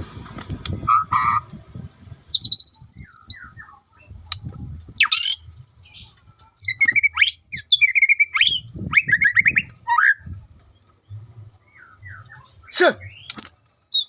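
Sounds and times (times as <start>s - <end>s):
songbird chirping and squawking: 0.7s - 14.0s.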